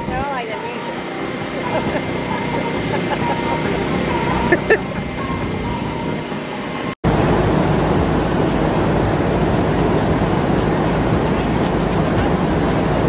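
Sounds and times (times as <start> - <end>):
loud even rushing noise: 0.0 - 13.0
truck engines idling: 0.0 - 13.0.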